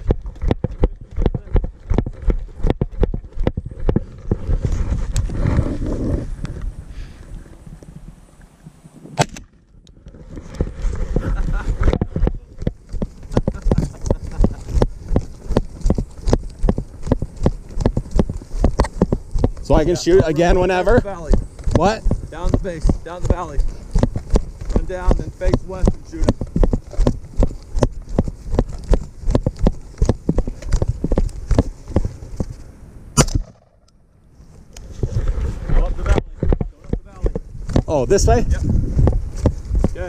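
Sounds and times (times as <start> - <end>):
jogging footsteps on rough ground: 0.0 - 8.0, 10.2 - 32.7, 34.8 - 40.0.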